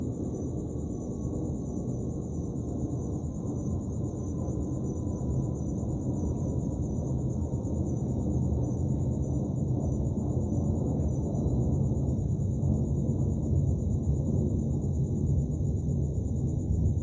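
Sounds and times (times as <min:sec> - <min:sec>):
aeroplane rumble overhead: 0:00.0 - 0:17.0
crickets chirping: 0:00.0 - 0:17.0.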